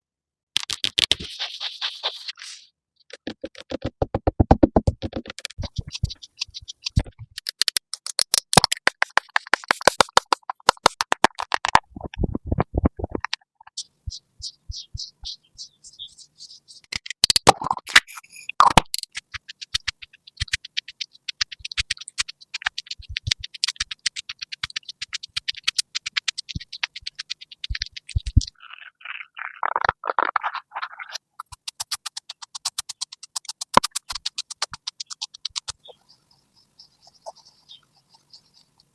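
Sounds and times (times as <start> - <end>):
rapid tapping and scratching: 0.6 - 38.9.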